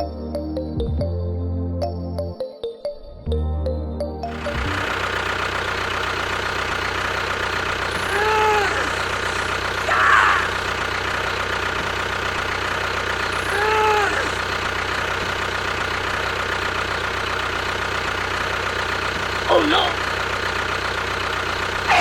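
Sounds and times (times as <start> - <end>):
engine idling with low knocking: 4.3 - 22.0.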